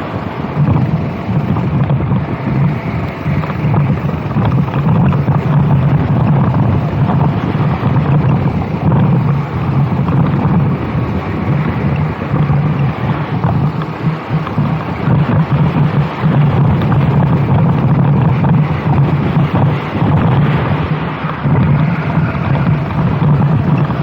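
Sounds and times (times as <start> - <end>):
kart engine running hard: 0.0 - 24.0
wind buffeting microphone: 0.0 - 24.0.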